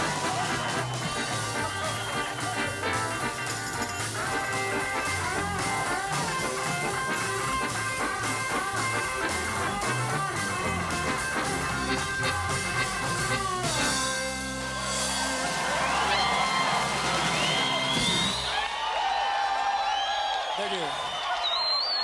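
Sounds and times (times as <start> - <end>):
live rock band playing: 0.0 - 18.5.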